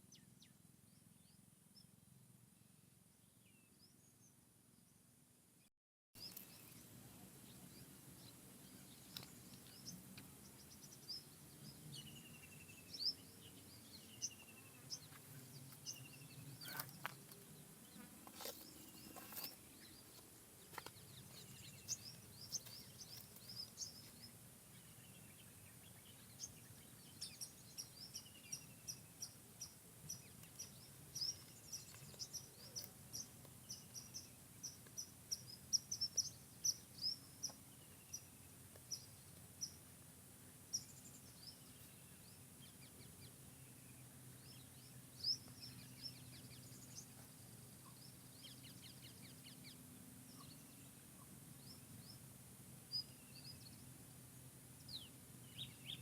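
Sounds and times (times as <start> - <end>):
forest background: 0.0 - 56.0
birds chirping: 6.2 - 52.3, 52.9 - 56.0.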